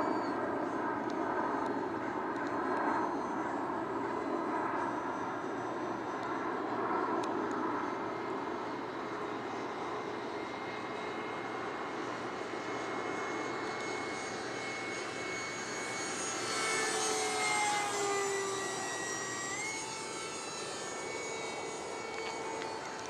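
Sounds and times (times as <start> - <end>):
electric ducted fan whine: 0.0 - 23.0.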